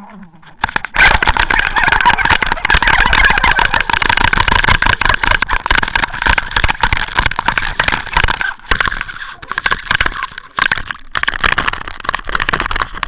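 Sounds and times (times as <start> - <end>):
water crackling against housing: 0.0 - 13.0.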